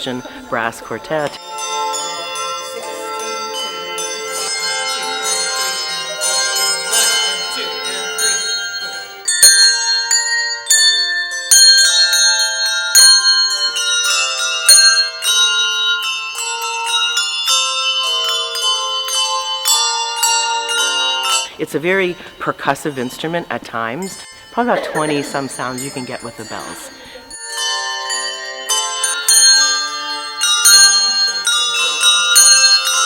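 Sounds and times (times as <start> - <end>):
handbell choir playing: 0.0 - 33.0.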